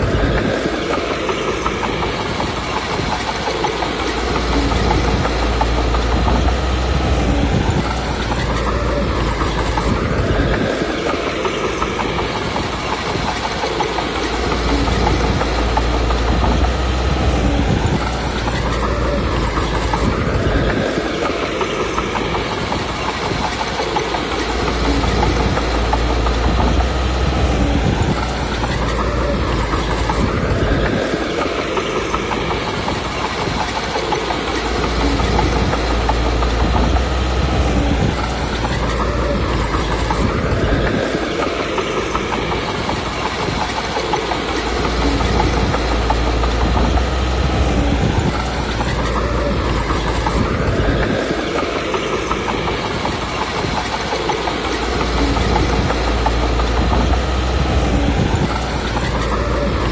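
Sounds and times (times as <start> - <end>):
bulldozer diesel engine: 0.0 - 59.9
steel tracks clanking: 0.0 - 59.9.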